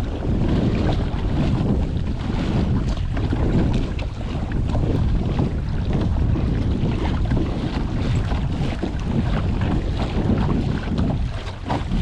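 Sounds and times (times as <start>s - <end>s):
water splashing against kayak: 0.0s - 12.0s
wind buffeting microphone: 0.0s - 12.0s.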